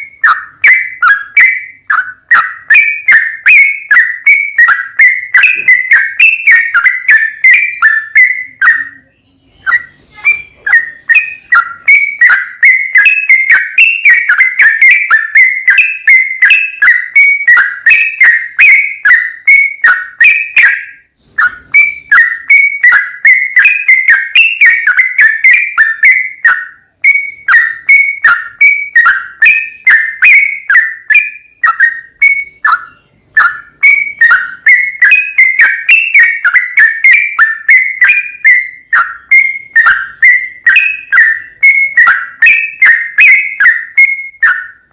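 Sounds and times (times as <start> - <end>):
bird singing bubbly whistled notes: 0.0 - 44.9.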